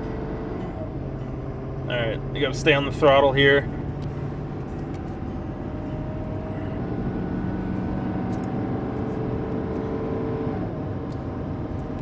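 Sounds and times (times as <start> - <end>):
truck engine droning at full throttle: 0.0 - 12.0.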